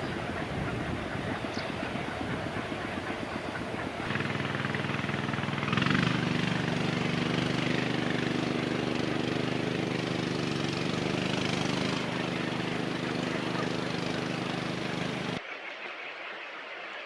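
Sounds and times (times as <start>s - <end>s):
engine humming: 0.0s - 15.4s.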